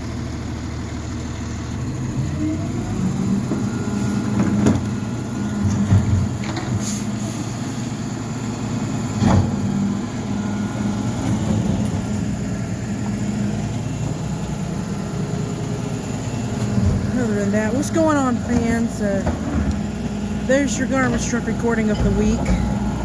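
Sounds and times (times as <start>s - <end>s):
truck engine humming: 0.0s - 23.0s.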